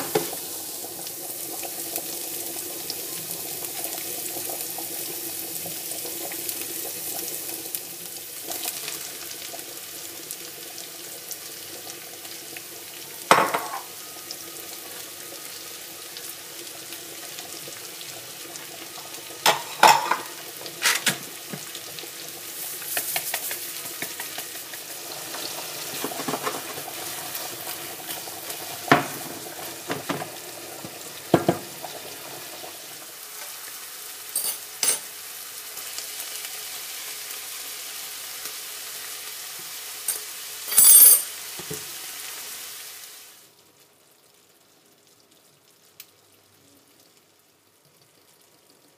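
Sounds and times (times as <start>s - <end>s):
vegetables sizzling in pan: 0.0s - 48.9s.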